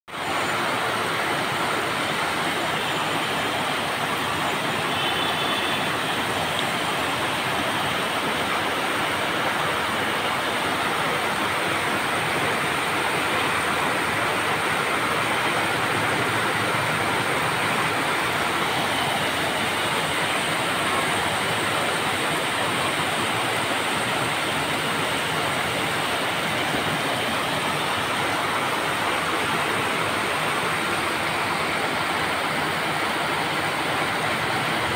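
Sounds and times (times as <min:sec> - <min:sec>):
rain on metal roofs: 0:00.3 - 0:34.9.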